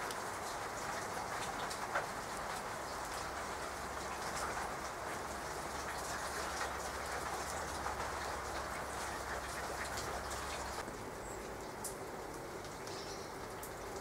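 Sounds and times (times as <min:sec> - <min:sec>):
rain on leaves and paving: 0:00.0 - 0:14.0
water drips: 0:00.0 - 0:14.0.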